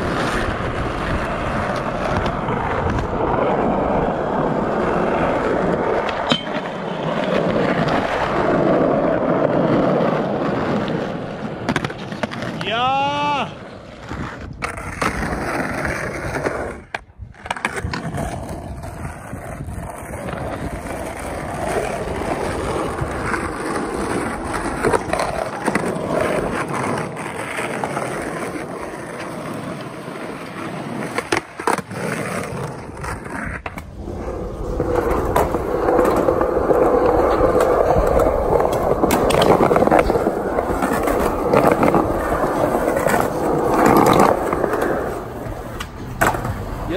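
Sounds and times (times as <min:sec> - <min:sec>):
skateboard clacking on ground: 0:00.0 - 0:46.9
skateboard wheels rolling on pavement: 0:00.0 - 0:46.9.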